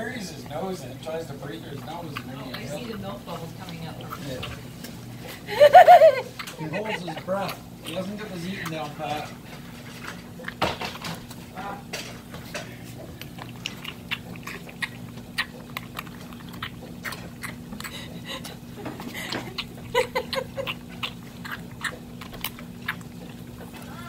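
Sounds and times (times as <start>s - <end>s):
animal slurping and lapping milk: 0.0s - 24.0s.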